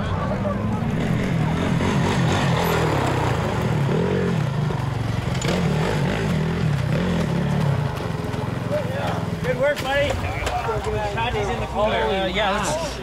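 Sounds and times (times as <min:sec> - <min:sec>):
dirt bike engine revving: 0:00.6 - 0:11.3.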